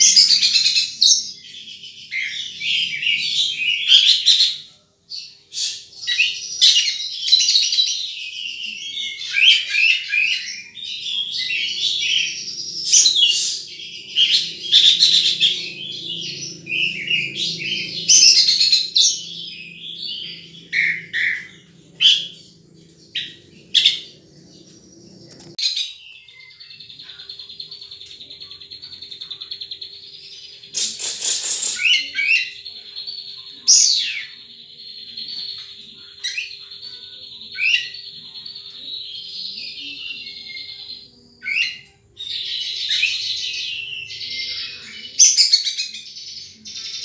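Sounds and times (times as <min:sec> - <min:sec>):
bird chirping and twittering: 0:00.0 - 0:47.0.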